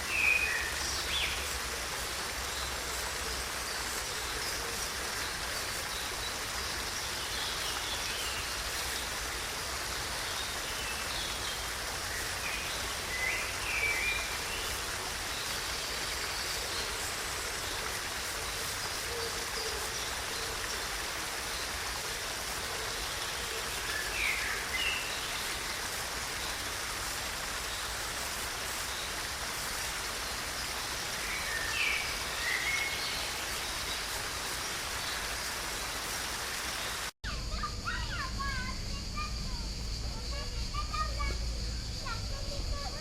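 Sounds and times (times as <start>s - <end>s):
running water: 0.0s - 43.0s.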